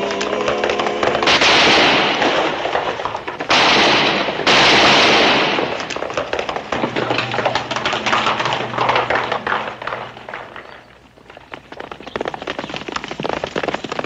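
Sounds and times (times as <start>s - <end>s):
galloping horse hooves: 0.0s - 14.0s.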